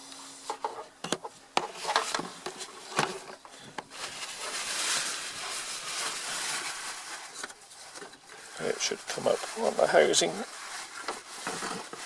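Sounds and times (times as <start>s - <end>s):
rustling rasping hiss: 0.0s - 12.0s.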